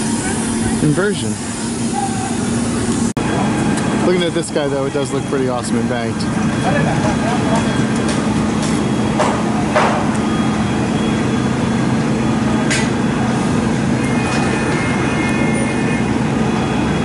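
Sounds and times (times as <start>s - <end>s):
heavy engine humming: 0.0s - 17.0s.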